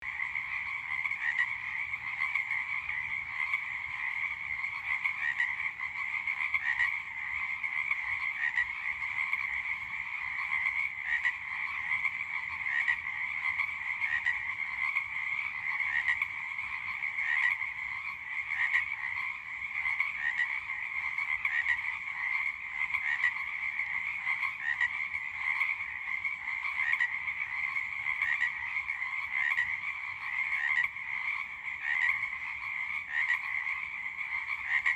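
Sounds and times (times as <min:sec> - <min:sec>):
frogs croaking: 0:00.0 - 0:34.9.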